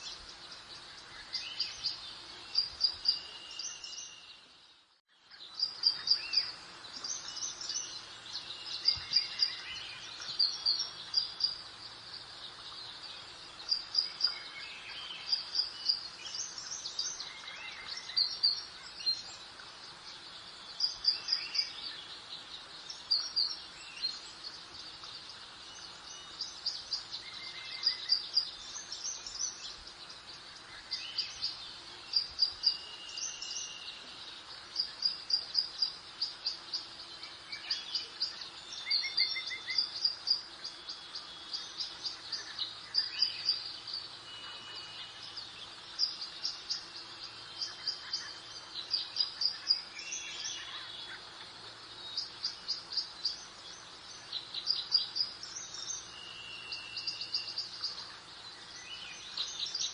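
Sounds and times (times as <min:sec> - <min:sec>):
soft steady hiss: 0:00.0 - 0:59.9
songbirds chirping: 0:00.0 - 0:59.9.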